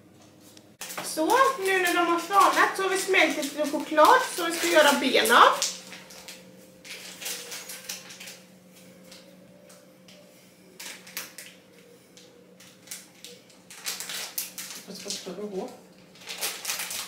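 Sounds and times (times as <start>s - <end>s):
steady low hum: 0.0s - 16.2s
plastic piping bag crinkling: 0.8s - 9.3s, 10.8s - 17.0s.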